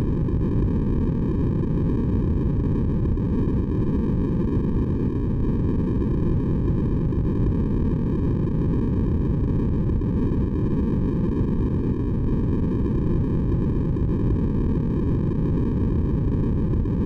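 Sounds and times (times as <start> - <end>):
low white noise: 0.0 - 17.0.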